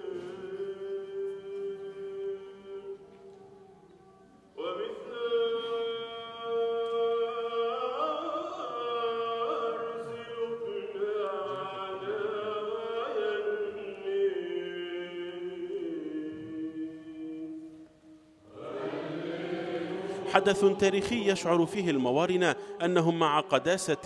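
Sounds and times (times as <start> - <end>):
liturgical chant singing: 0.0 - 24.0.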